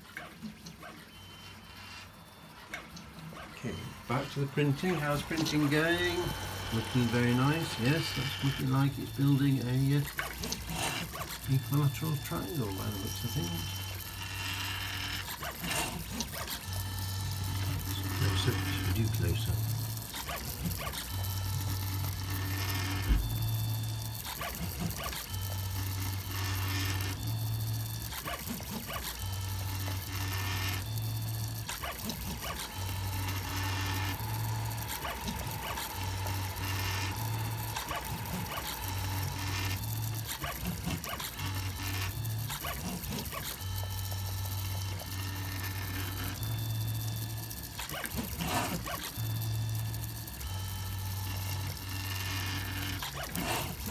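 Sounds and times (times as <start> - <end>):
stepper motors humming: 0.0 - 53.9.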